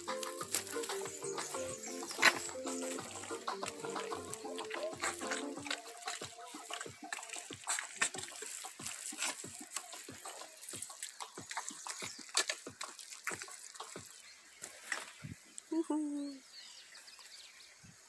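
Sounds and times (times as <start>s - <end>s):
wet mud squelching: 0.0s - 15.2s.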